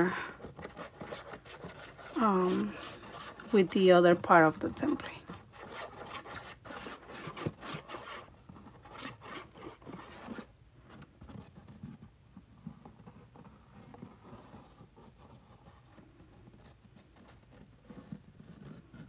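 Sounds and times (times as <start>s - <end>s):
cardstock rubbing and scraping: 0.0s - 19.0s.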